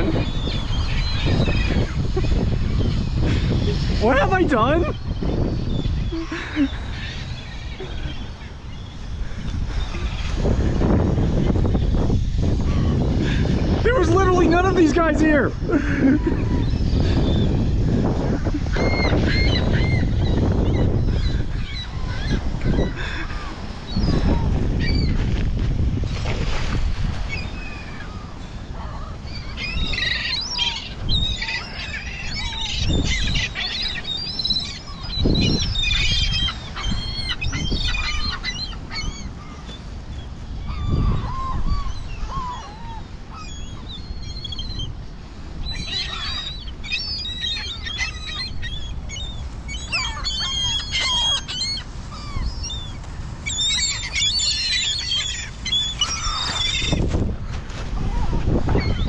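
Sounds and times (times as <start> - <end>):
wind rumble on microphone: 0.0 - 54.6, 55.5 - 59.0
gulls squawking: 0.0 - 59.0.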